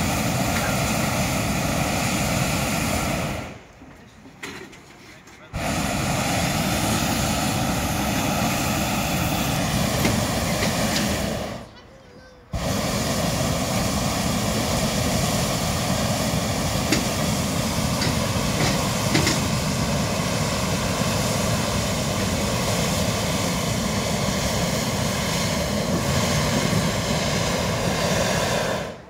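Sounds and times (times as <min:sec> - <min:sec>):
propane burner blast: 0:00.0 - 0:29.0.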